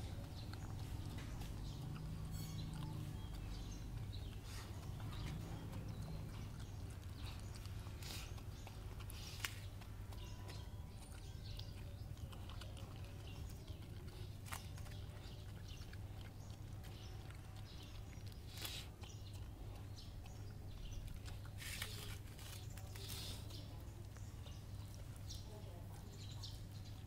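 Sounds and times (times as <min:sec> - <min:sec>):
dog chewing and smacking: 0:00.0 - 0:25.4.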